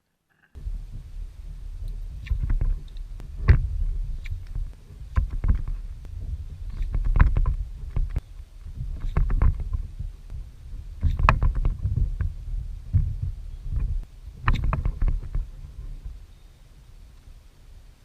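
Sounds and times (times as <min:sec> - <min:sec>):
wind on microphone: 0:00.6 - 0:18.0.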